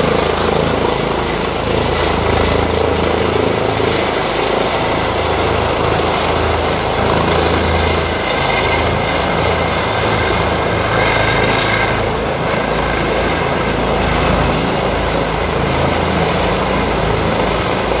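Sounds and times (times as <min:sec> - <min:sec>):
helicopter rotors and turbine engines: 0:00.0 - 0:18.0.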